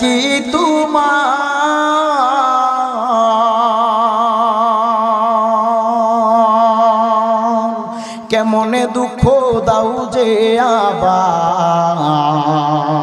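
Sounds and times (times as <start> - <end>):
man singing a long held note: 0.0 - 13.0.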